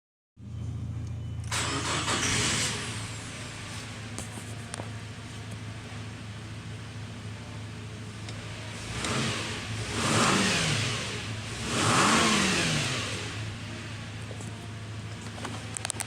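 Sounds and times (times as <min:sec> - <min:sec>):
car engine idling and revving: 0:00.4 - 0:16.0.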